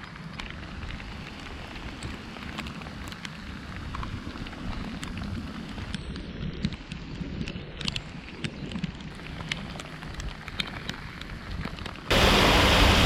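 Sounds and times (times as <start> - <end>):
steady rain: 0.0 - 7.2, 8.8 - 13.0.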